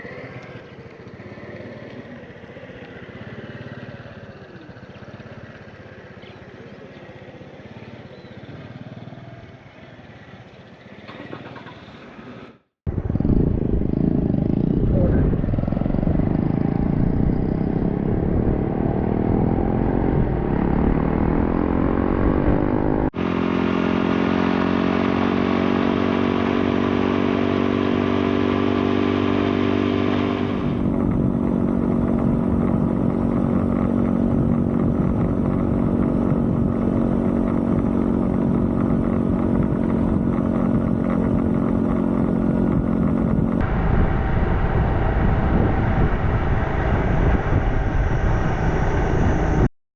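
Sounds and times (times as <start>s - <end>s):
small motorcycle engine running: 0.0s - 49.7s.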